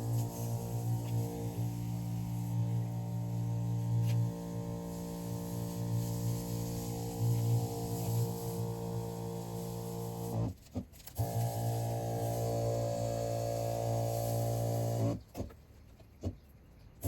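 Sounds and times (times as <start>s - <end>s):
sprayer pump motor humming: 0.0s - 10.5s, 11.2s - 15.2s.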